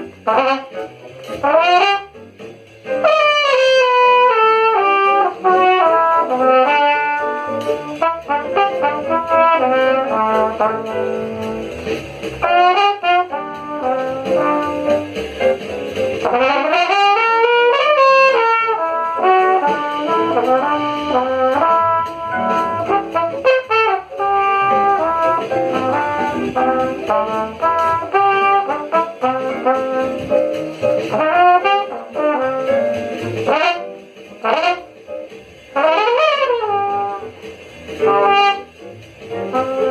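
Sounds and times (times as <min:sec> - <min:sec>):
bass line: 0:00.0 - 0:39.9
trombone: 0:00.0 - 0:39.9
trumpet: 0:00.0 - 0:39.9.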